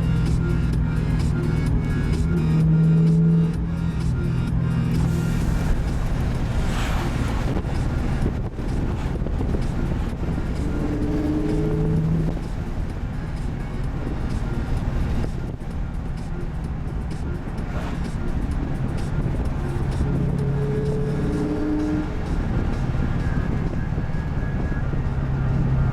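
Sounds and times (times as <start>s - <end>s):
engine drone inside car cabin: 0.0s - 25.9s.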